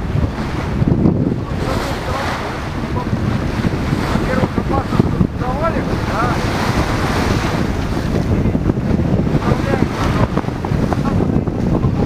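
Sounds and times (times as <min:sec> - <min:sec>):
sea water rushing: 0:00.0 - 0:12.0
wind buffeting microphone: 0:00.0 - 0:12.0.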